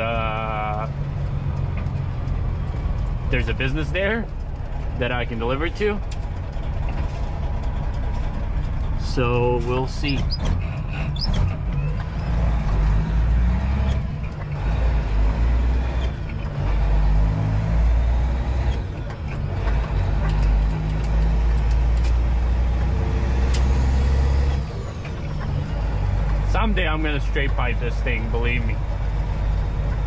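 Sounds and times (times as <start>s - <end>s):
truck diesel engine accelerating: 0.0s - 30.0s.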